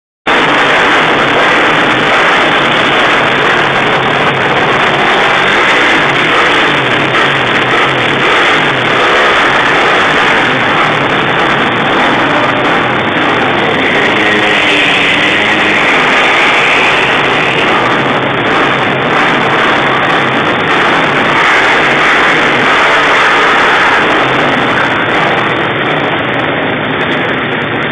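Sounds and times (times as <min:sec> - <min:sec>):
motorcycle engine revving: 0:00.3 - 0:27.9.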